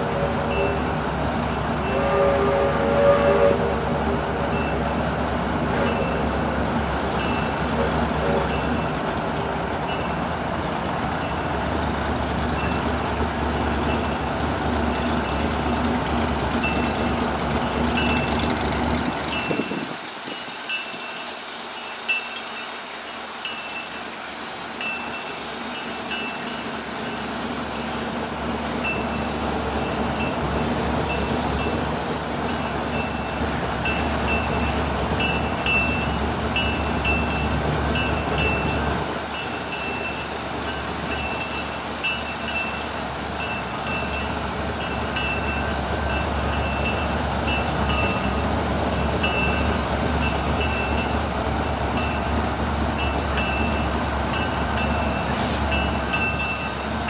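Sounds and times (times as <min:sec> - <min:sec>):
locomotive bell ringing: 0:00.0 - 0:00.9, 0:01.5 - 0:03.7, 0:04.4 - 0:05.0, 0:05.8 - 0:09.1, 0:09.8 - 0:10.4, 0:11.2 - 0:24.2, 0:24.8 - 0:28.0, 0:28.8 - 0:57.0
train running sound: 0:00.0 - 0:57.0.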